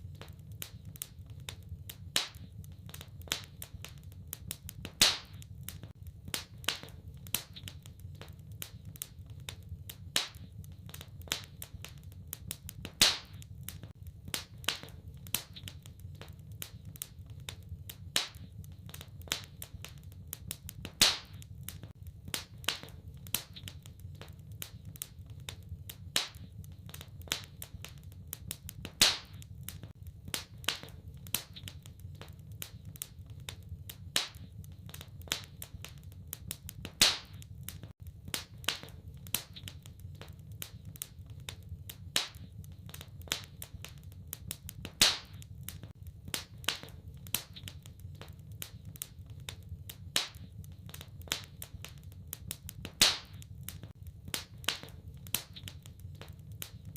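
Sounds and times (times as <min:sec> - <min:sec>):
fire pops: 0:00.0 - 0:56.9
wood fire crackling: 0:00.0 - 0:56.9.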